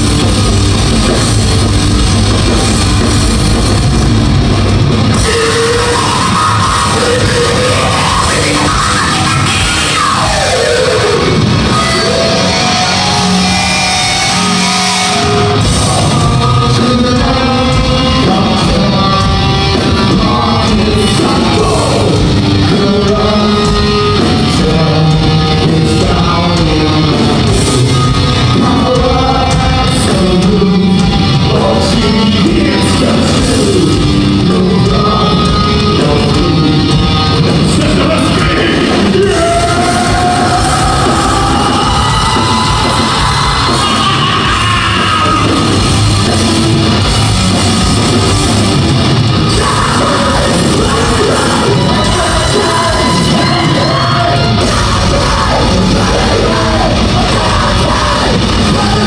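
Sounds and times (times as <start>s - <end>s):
distorted guitar and bass: 0.0s - 59.0s
drums: 0.0s - 59.0s
sung and yelled vocals: 4.8s - 59.0s.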